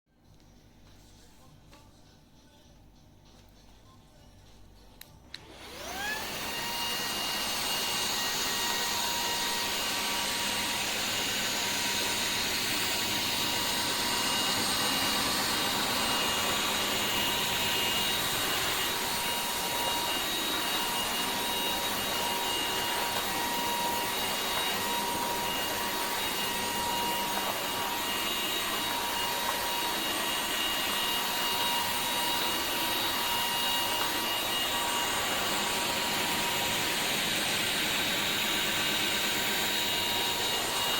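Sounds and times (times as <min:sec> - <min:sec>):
floor vacuum motor whining: 0:05.3 - 0:40.9.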